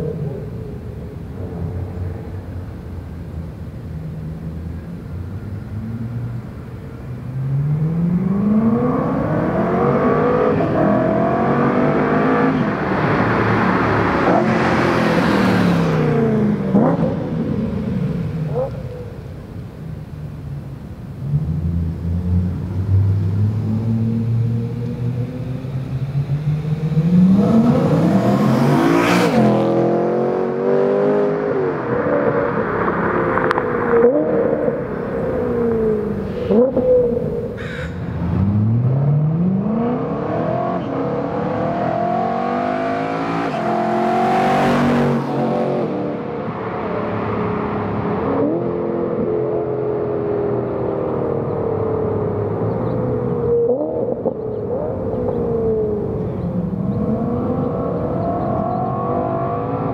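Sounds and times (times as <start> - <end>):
car engine accelerating hard: 7.2 - 19.2, 21.1 - 59.9.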